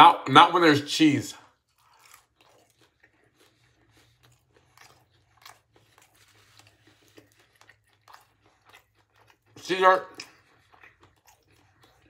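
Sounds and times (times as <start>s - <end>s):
faint crunchy chewing: 1.3s - 12.0s.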